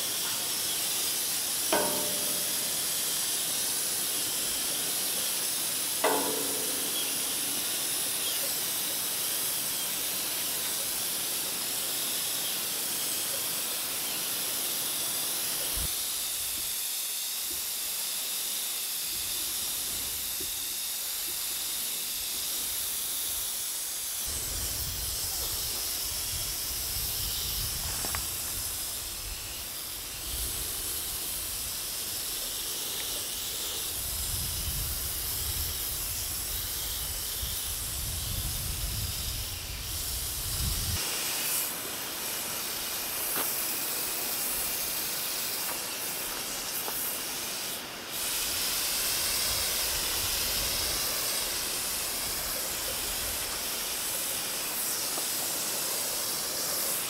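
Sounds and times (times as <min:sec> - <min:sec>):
paint spray gun hissing: 0:00.0 - 0:57.0.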